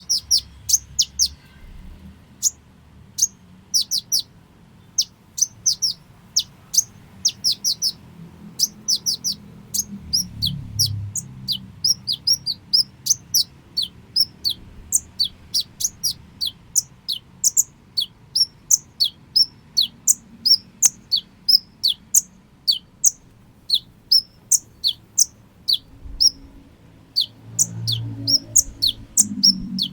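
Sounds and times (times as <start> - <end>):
bird high downward chirps: 0.0 - 1.6, 2.4 - 2.6, 3.2 - 29.9.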